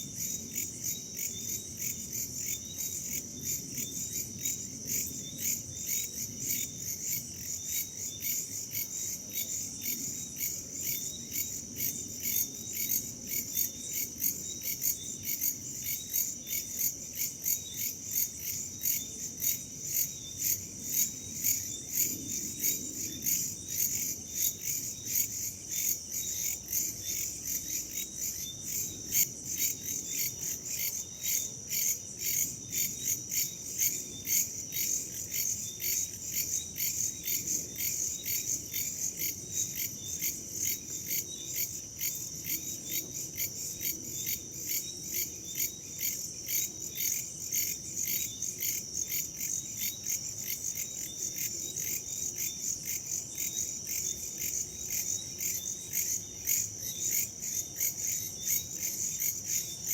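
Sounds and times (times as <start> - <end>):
crickets trilling: 0.0 - 59.9
insects chirping: 0.0 - 59.9.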